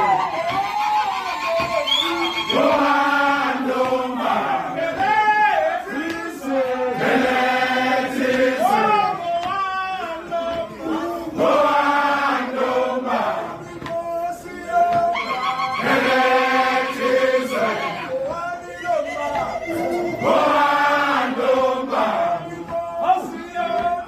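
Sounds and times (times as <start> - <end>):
group chanting: 0.0 - 24.0.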